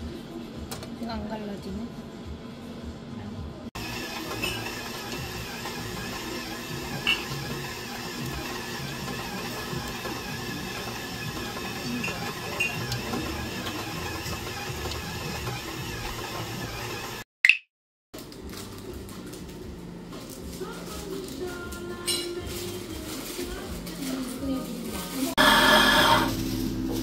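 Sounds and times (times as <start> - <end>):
steady kitchen hum: 1.1 - 17.2, 18.2 - 27.0.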